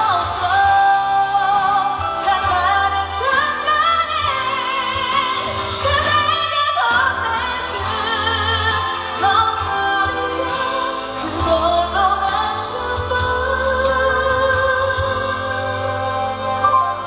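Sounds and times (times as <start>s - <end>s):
band playing: 0.0s - 17.0s
woman singing a ballad: 0.0s - 17.0s.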